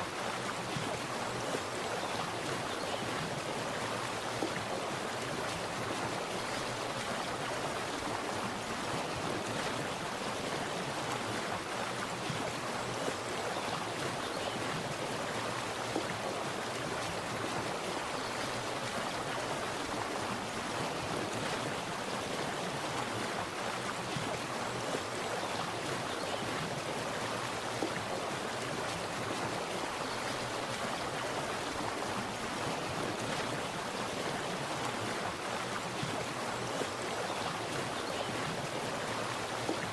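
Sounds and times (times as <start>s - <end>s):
water splashing and rushing: 0.0s - 39.9s.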